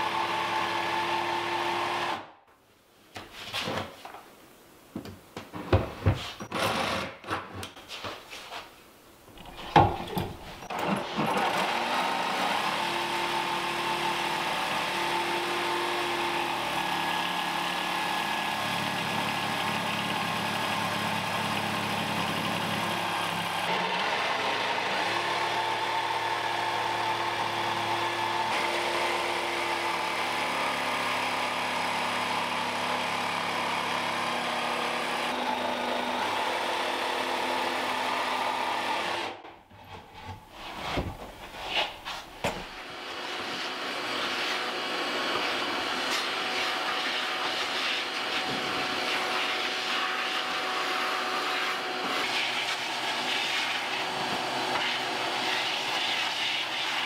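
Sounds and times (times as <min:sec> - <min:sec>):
jigsaw cutting wood: 0:00.0 - 0:02.3, 0:06.5 - 0:07.4, 0:10.7 - 0:39.4, 0:42.4 - 0:57.0
vacuum cleaner running: 0:00.0 - 0:02.3, 0:09.4 - 0:39.4, 0:40.2 - 0:57.0.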